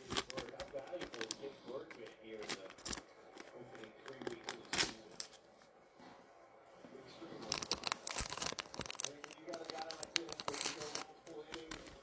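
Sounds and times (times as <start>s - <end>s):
wrapper crinkling and rustling: 0.0s - 5.4s, 7.4s - 12.0s.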